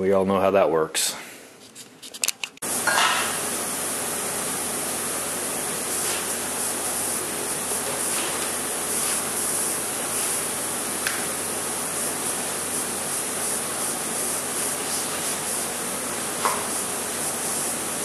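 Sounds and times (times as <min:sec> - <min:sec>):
welding arc crackling sizzle: 0:02.6 - 0:18.0.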